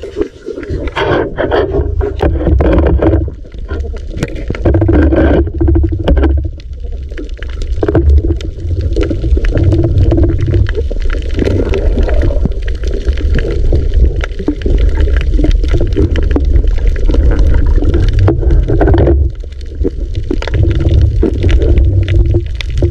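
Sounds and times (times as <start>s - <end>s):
underwater water rumble: 0.0s - 22.9s.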